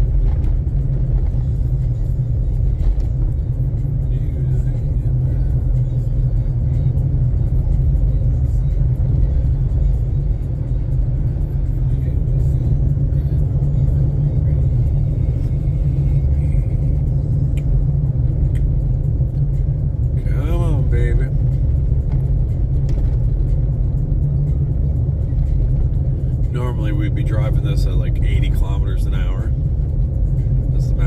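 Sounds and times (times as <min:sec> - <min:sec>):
road rumble inside a car: 0:00.0 - 0:31.0.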